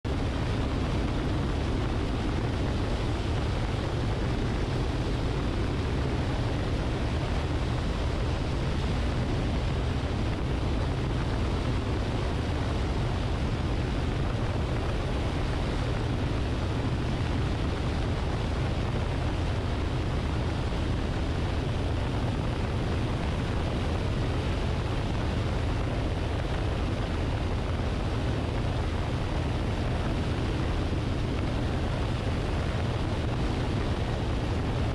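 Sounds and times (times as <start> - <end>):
airplane engine drone: 0.0 - 34.9.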